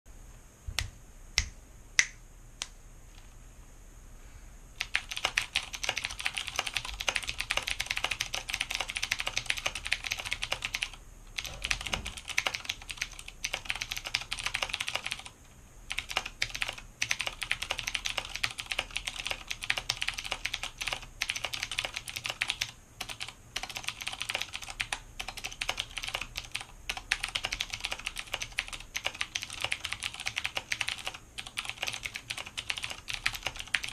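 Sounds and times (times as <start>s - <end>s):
mechanical keyboard typing: 4.8s - 33.9s.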